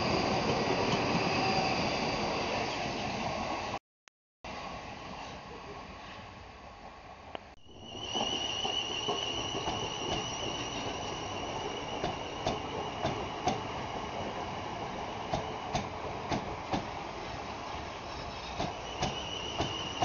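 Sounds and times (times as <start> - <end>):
electric train whine: 0.0 - 3.8, 4.5 - 20.0.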